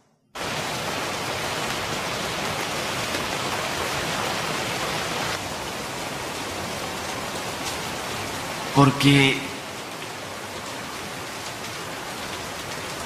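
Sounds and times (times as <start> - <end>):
heavy rain: 0.4 - 13.0.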